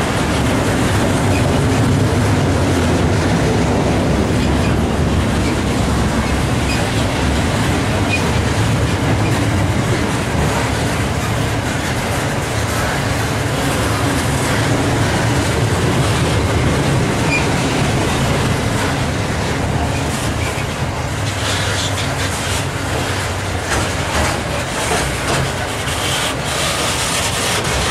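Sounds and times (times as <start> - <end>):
wagons rumbling on rails: 0.0 - 27.9
wheels clicking over rail joints: 0.0 - 27.9.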